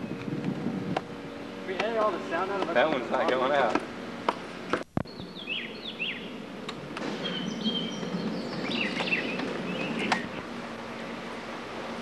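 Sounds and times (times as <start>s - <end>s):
outdoor background hiss: 0.0s - 12.0s
birds chirping: 1.1s - 3.8s, 4.4s - 12.0s.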